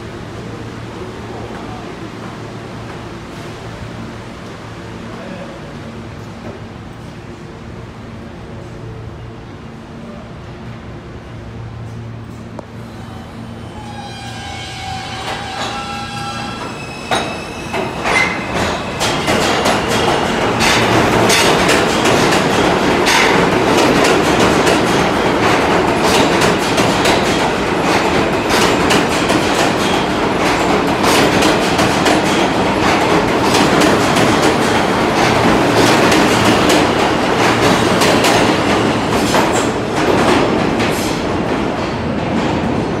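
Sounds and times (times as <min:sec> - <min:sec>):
subway train whine: 0:00.0 - 0:43.0.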